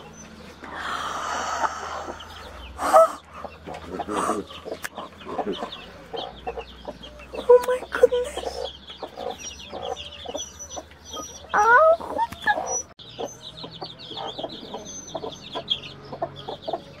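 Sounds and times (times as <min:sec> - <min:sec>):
baby chicks peeping: 0:00.0 - 0:17.0
hen clucking: 0:00.0 - 0:17.0.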